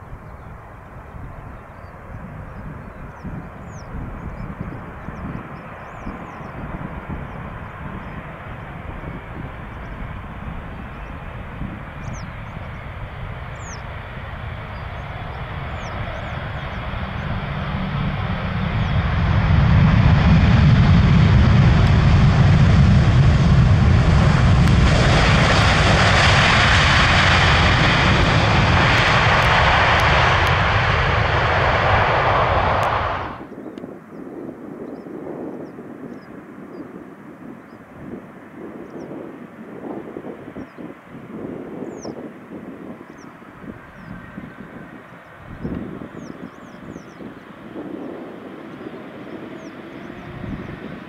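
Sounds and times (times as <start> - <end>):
jet airliner passing: 0.0 - 51.0.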